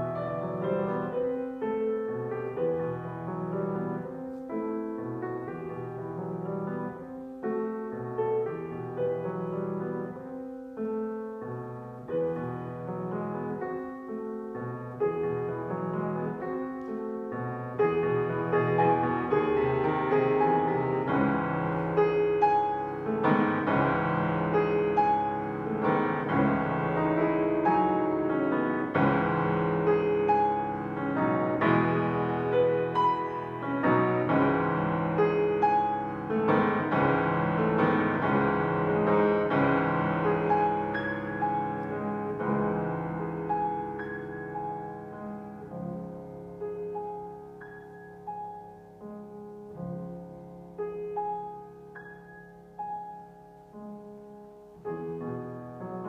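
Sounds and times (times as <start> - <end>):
solo piano playing: 0.0 - 56.0.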